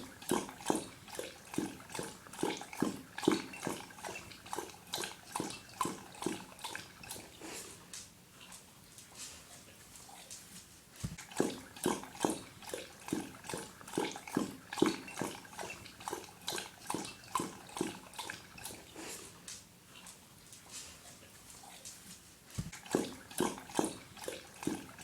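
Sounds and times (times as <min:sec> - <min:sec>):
dog lapping water: 0:00.0 - 0:10.0, 0:11.0 - 0:21.8, 0:22.4 - 0:25.0.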